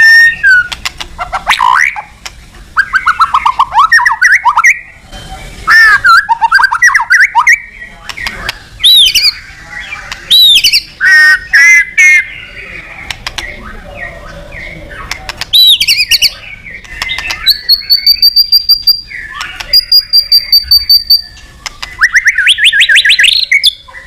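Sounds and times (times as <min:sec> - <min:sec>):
songbird singing whistled phrases: 0:00.0 - 0:00.7, 0:02.8 - 0:05.0, 0:05.6 - 0:24.0.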